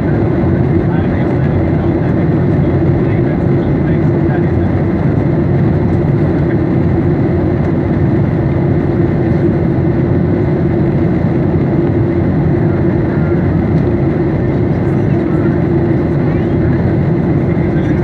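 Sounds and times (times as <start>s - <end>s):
constant low hum: 0.0s - 18.0s
jet engine and airflow rush: 0.0s - 18.0s.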